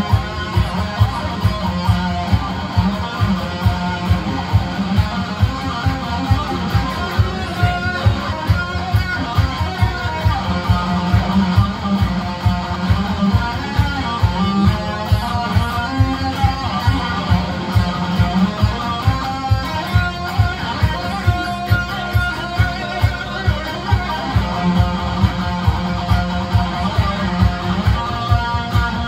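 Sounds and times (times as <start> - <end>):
disco backing track: 0.0 - 29.0
electric guitar playing: 0.0 - 29.0.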